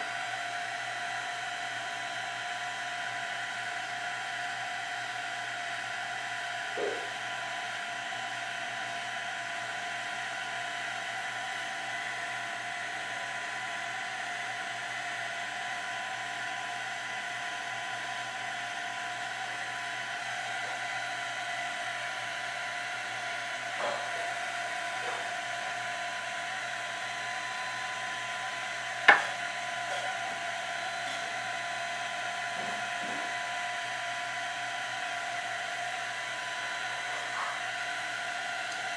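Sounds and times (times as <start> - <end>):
electric fan motor whining: 0.0 - 38.9.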